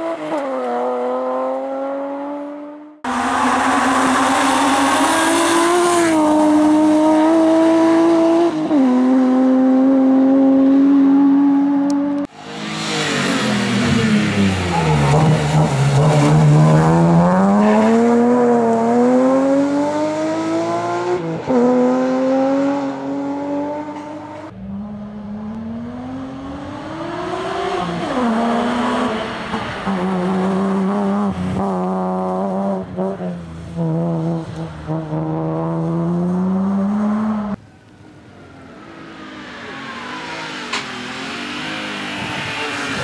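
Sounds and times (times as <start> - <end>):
rally car engine revving: 0.0 - 37.6.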